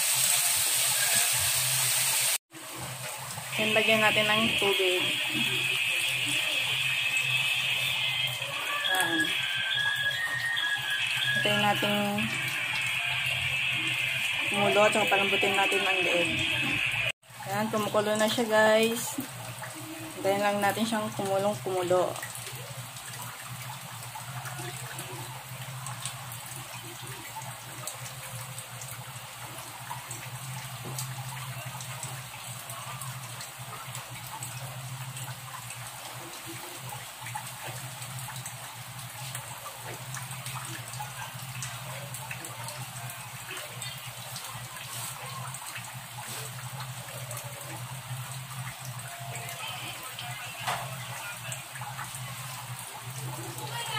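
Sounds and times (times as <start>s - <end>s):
liquid bubbling in a metal pan: 2.5s - 53.9s.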